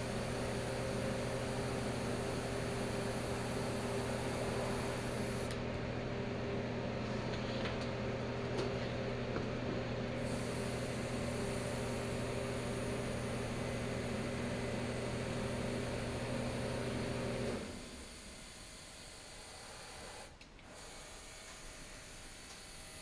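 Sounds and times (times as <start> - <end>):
machine hum: 0.0 - 19.2.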